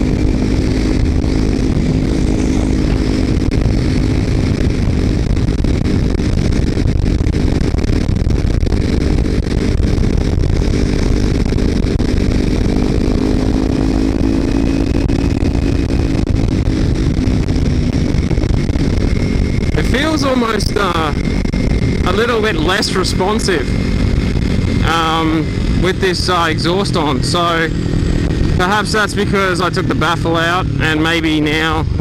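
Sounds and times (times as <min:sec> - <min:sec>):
motorcycle engine cruising: 0:00.0 - 0:32.0
wind rush on microphone: 0:00.0 - 0:32.0.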